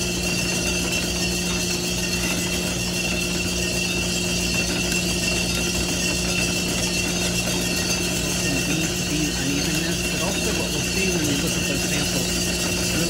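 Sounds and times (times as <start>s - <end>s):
high whine: 0.0s - 13.0s
roaster mechanical hum: 0.0s - 13.0s.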